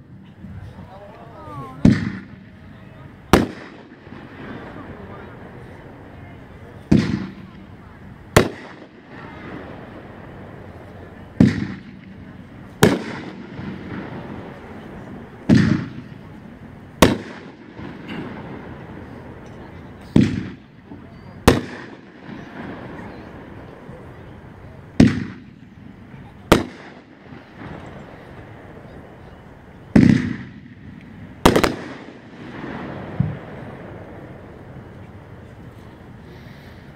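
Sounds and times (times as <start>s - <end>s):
firework bangs with echo: 1.8s - 24.2s, 24.9s - 29.2s, 29.9s - 34.8s.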